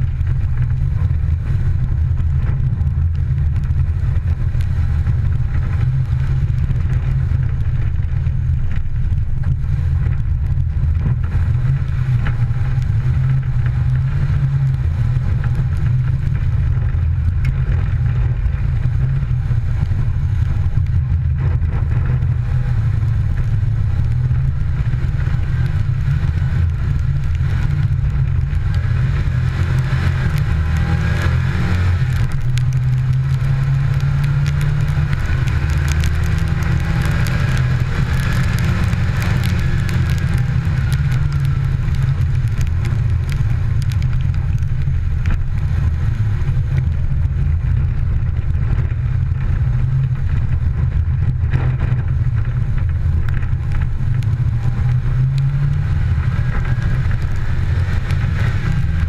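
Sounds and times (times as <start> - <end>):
rally car engine drone: 0.0 - 59.0
road and wind noise: 0.0 - 59.0.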